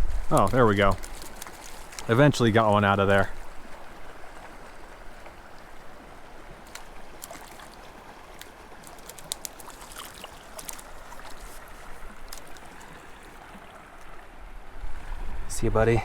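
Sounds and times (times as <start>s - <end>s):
creek water running: 0.0s - 16.0s
small sharp clicks and splashes: 0.2s - 14.2s.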